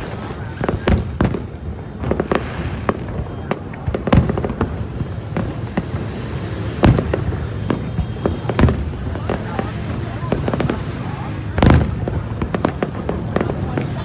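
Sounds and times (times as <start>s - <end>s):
fireworks bangs and pops: 0.0s - 14.0s
fireworks booms: 0.0s - 14.0s.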